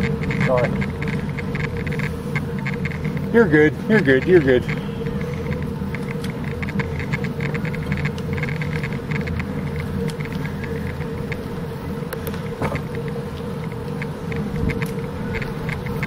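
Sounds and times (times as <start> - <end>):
bicycle clicking rattles: 0.0 - 16.0
faint hum: 0.0 - 16.0
wind and tyre rolling noise: 0.0 - 16.0.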